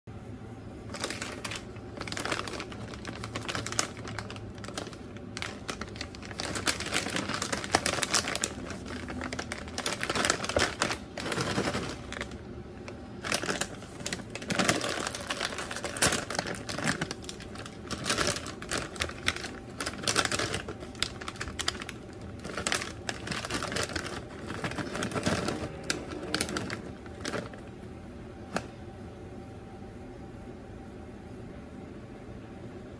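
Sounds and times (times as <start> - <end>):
cheese puffs rustling: 0.9 - 27.8
plastic snack bag crinkling: 0.9 - 27.8.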